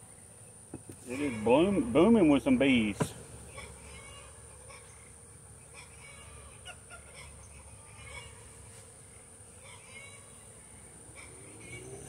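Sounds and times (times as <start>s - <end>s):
high insect trill: 0.0s - 12.0s
honeybees buzzing: 0.0s - 12.0s.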